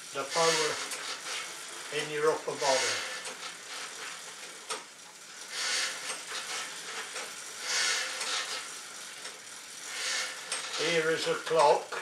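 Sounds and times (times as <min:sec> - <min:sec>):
exercise bike fan whooshing: 0:00.0 - 0:12.0.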